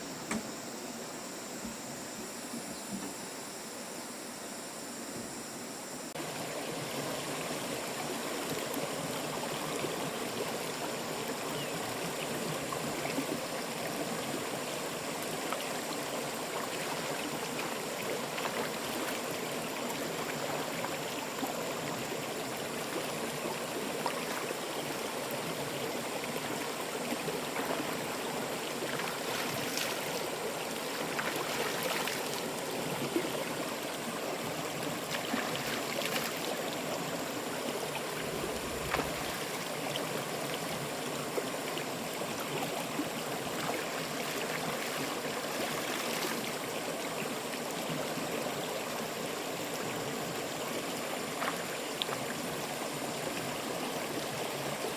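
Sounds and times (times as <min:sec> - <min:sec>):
flowing water rushing: 0:06.2 - 0:54.9.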